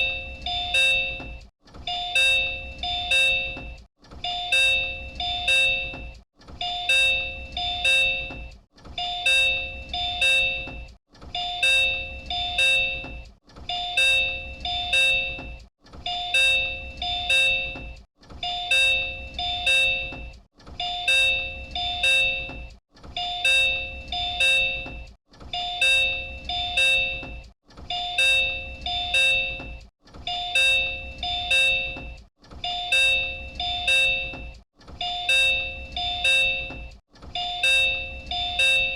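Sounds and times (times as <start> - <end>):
two-tone door chime: 0.0 - 38.9.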